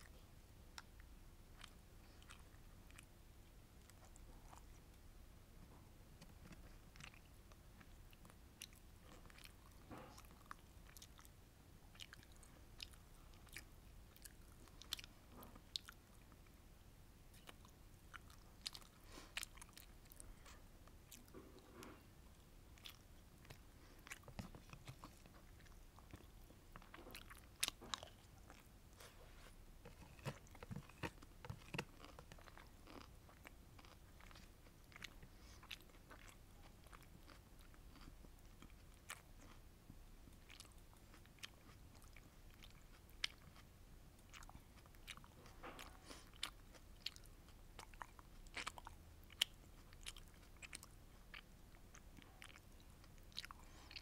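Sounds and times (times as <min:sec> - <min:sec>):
close chewing and biting: 0:00.0 - 0:05.0, 0:06.2 - 0:16.6, 0:17.3 - 0:54.0.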